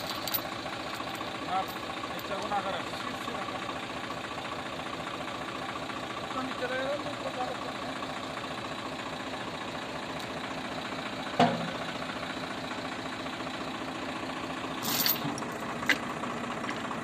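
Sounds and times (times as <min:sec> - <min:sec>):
diesel tractor engine idling: 0:00.0 - 0:17.0.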